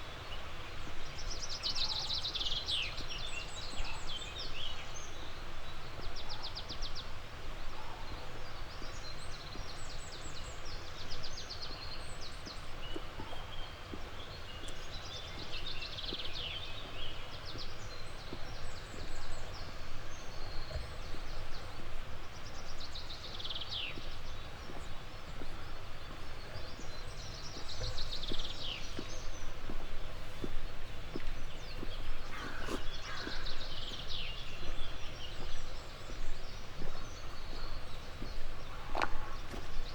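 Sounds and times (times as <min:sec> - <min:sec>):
songbirds singing trills: 0:00.0 - 0:39.9
faint footsteps on a path: 0:00.1 - 0:39.9.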